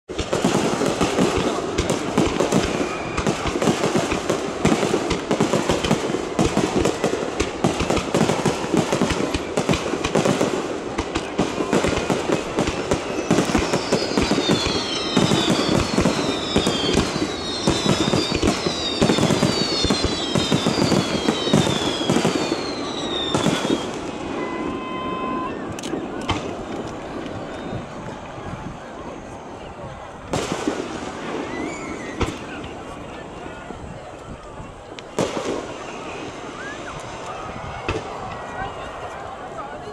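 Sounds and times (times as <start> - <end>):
firework shells booming and crackling: 0.1 - 39.9
falling firework whistles: 0.2 - 10.4, 11.1 - 32.8, 35.1 - 38.8.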